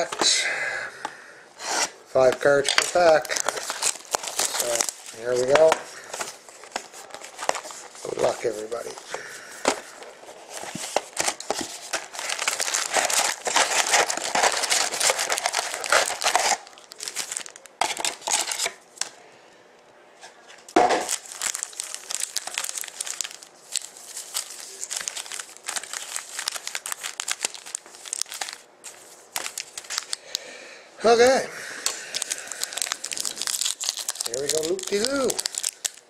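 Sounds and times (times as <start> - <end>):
foil packs crinkling: 2.2 - 18.7, 21.0 - 30.5, 31.8 - 36.0.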